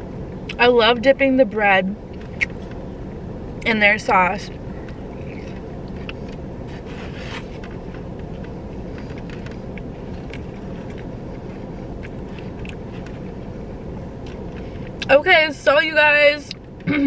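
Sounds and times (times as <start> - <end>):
low car cabin rumble: 0.0 - 17.0.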